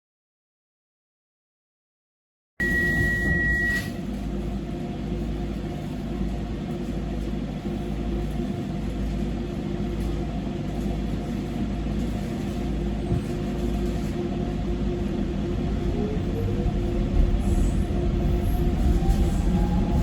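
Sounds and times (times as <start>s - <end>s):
train low rumble and hum: 2.6s - 20.0s.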